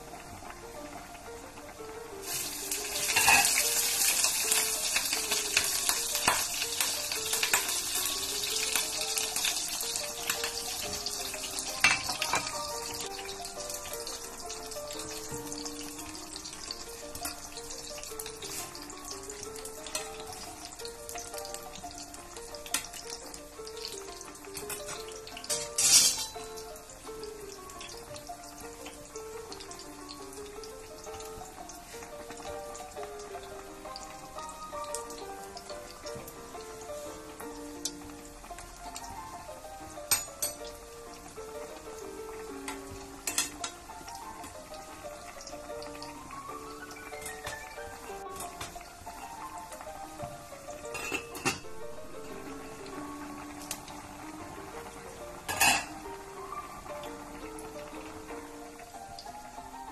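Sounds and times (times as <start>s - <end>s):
background music: 0.0s - 59.9s
soup boiling with bubbling hiss: 0.0s - 59.9s.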